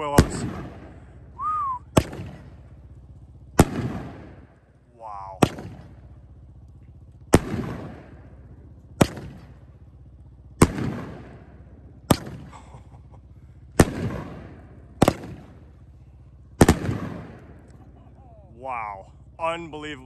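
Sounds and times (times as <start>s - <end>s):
firework shells booming: 0.0s - 18.6s.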